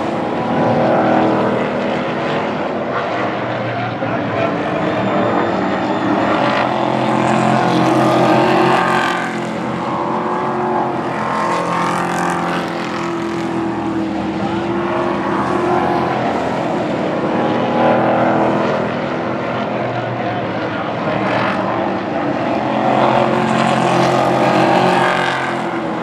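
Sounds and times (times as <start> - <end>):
race truck engines passing: 0.0 - 26.0.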